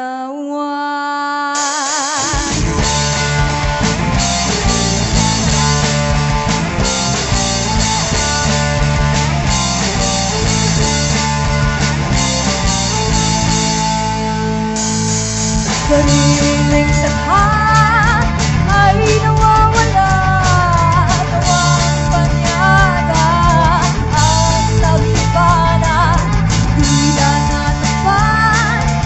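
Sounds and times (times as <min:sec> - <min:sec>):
rock band playing: 0:01.6 - 0:29.0.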